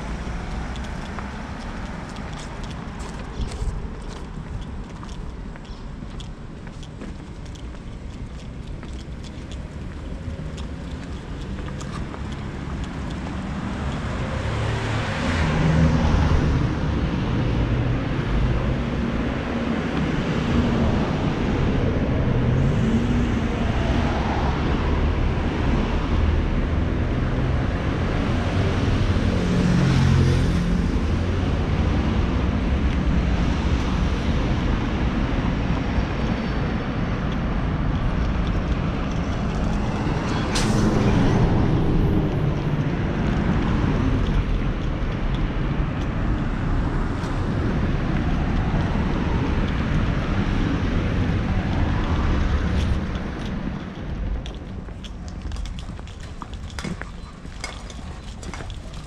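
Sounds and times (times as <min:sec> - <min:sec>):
cars driving past: 0:07.4 - 0:59.0.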